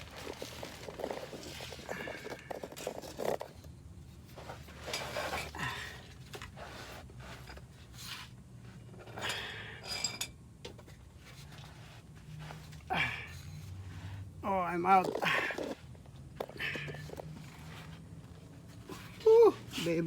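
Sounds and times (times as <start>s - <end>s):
car parts and tools scraping: 0.0s - 20.0s.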